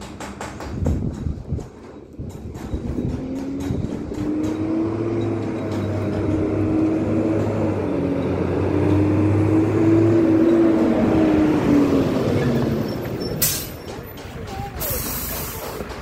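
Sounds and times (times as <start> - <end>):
truck engine running: 1.4 - 16.0.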